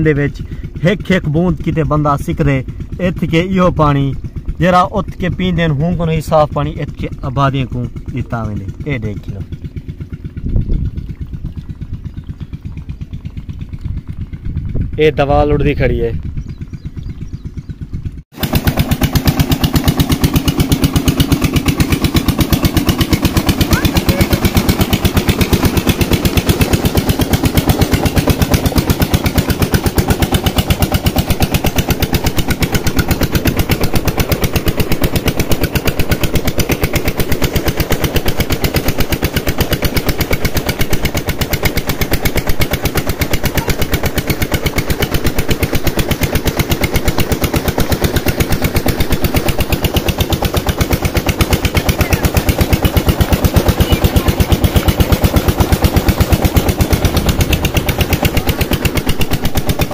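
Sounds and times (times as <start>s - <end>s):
pump engine knocking: 0.0s - 59.9s
water gushing from pipe: 0.4s - 14.9s, 18.3s - 59.9s.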